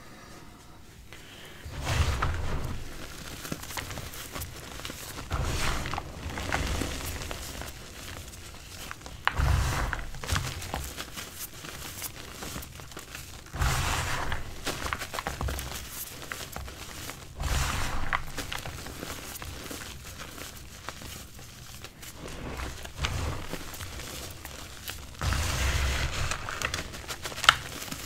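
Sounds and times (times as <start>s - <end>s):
chalk crunching and crumbling: 1.2s - 28.0s.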